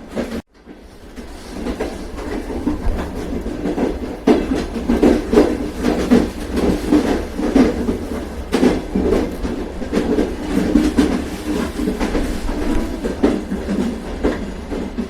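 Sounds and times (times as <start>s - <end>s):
train rumbling: 0.0s - 15.0s
wheels clacking over rail joints: 0.0s - 15.0s.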